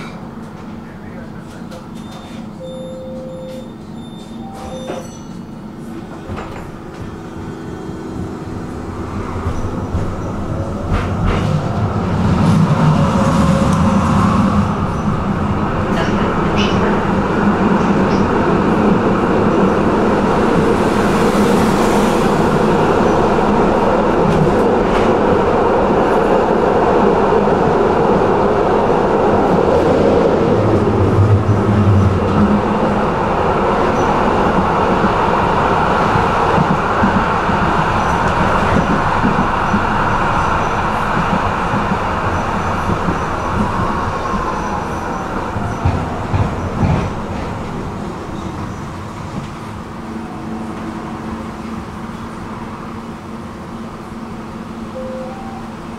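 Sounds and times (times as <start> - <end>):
tram wheels rumbling on rails: 0.0 - 55.9.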